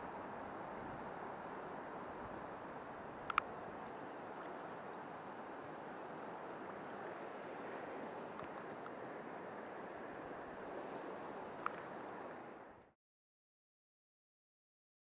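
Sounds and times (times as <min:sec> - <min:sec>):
river water rushing over riffle: 0:00.0 - 0:12.9.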